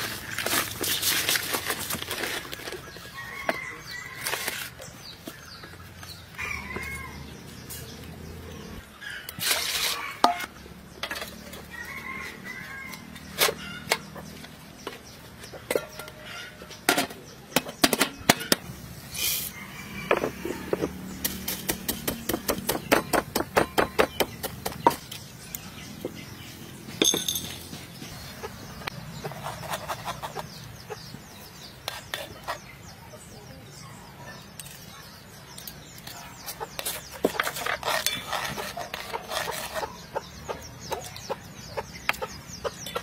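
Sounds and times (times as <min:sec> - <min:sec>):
birds chirping: 0:00.0 - 0:09.4, 0:10.0 - 0:43.0.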